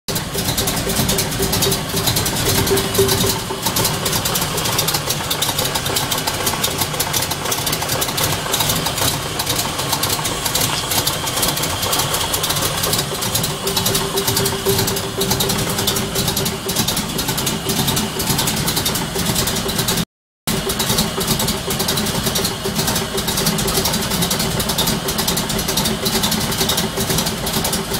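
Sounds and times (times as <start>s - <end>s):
car engine running: 0.1s - 27.9s
fast mechanical ticking: 0.1s - 27.9s
steady engine whine: 0.1s - 27.9s.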